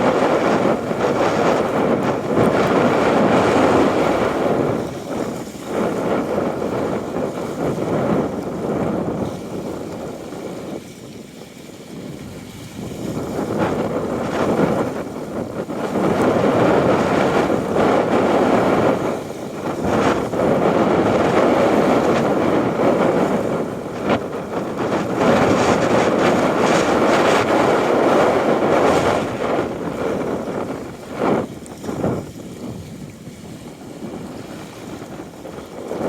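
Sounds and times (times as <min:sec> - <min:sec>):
strong wind on microphone: 0:00.0 - 0:36.0.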